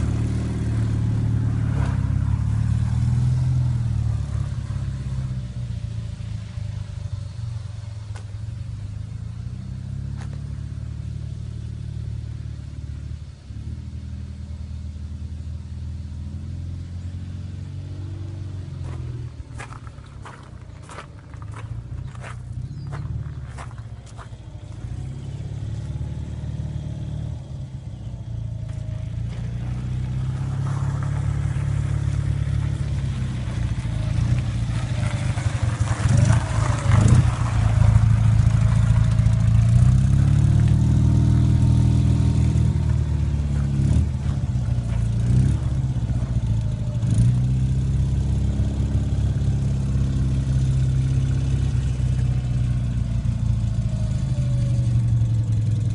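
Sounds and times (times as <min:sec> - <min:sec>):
motorcycle engine revving: 0:00.0 - 0:13.0, 0:16.1 - 0:55.9.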